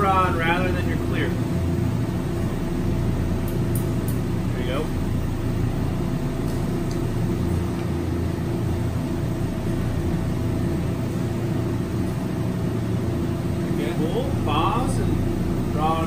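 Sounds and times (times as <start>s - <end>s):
low hum: 0.0s - 16.0s
torch flame roaring: 0.0s - 16.0s.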